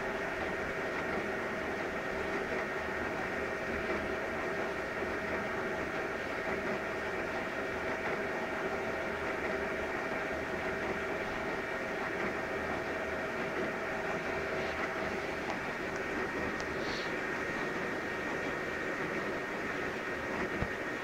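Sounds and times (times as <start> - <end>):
printer mechanical whir: 0.0 - 21.0.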